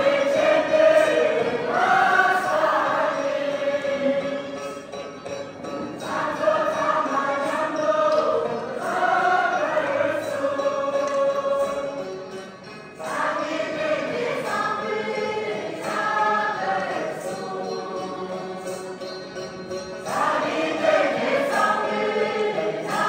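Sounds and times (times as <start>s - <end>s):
group singing a folk song: 0.0s - 5.1s, 5.8s - 23.0s.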